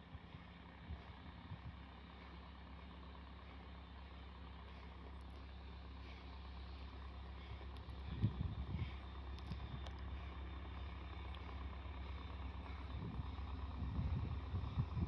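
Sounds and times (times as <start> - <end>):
snow blower engine running: 0.0 - 15.0.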